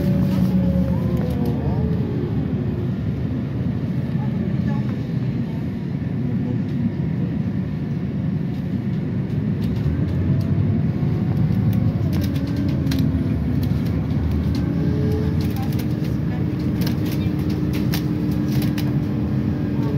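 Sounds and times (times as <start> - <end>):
vehicle low rumble: 0.0 - 19.9.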